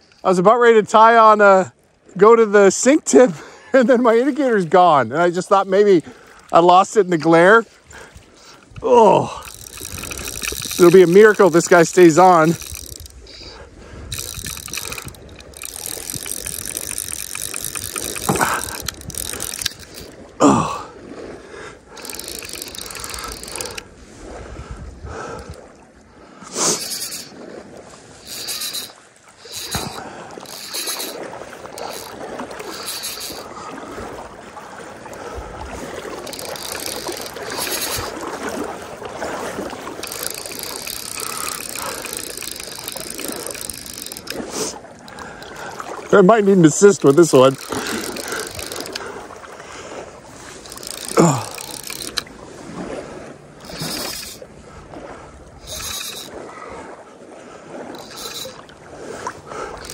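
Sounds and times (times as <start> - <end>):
fly reel drag ratcheting: 2.7 - 20.3, 21.8 - 24.0, 26.5 - 54.5, 55.5 - 56.5, 57.7 - 59.9.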